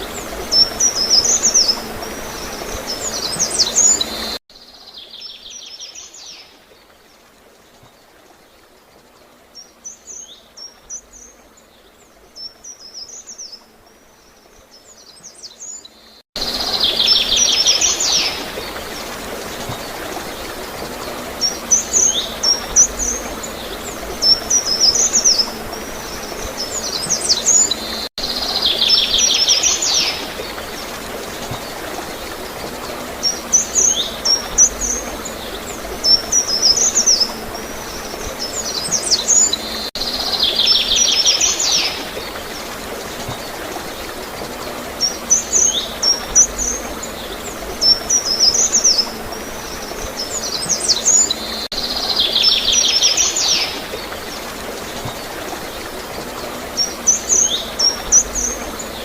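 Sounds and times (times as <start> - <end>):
water flowing and gurgling: 0.0 - 15.8, 16.4 - 59.0.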